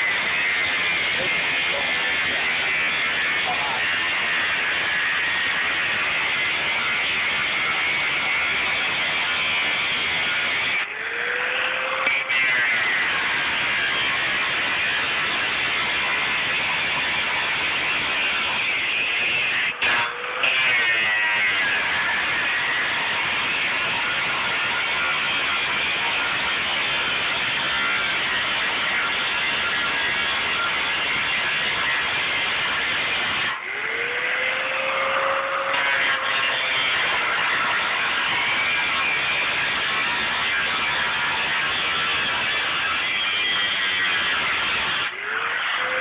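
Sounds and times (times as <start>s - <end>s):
angle grinder cutting steel: 0.0s - 46.0s
grinder motor whine: 0.0s - 46.0s.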